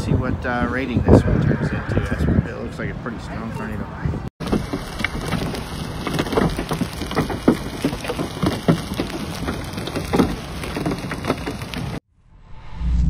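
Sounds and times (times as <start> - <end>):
gusty wind thumps: 0.0 - 3.3, 3.9 - 13.0
wind rushing on microphone: 0.0 - 12.0.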